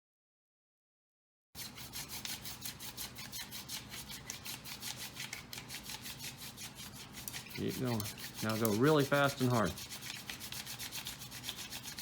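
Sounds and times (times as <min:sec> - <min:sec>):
hand drill rubbing on wood: 0:01.6 - 0:12.0.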